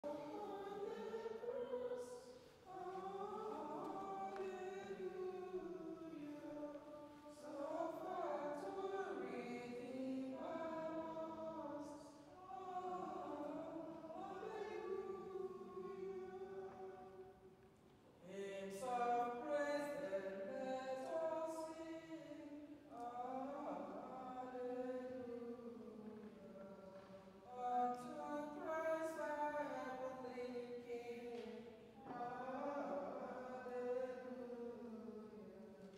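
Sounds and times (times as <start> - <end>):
person chanting unaccompanied: 0.0 - 17.4, 18.2 - 35.9
choir singing a slow hymn: 0.0 - 35.9.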